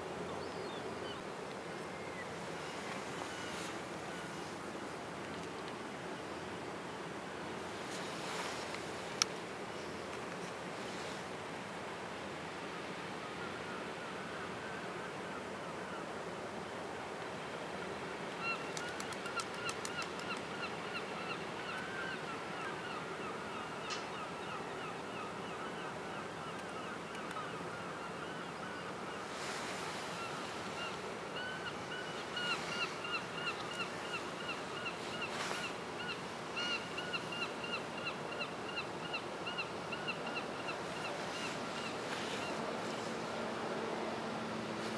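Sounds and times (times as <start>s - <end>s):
wind and water hiss: 0.0s - 44.9s.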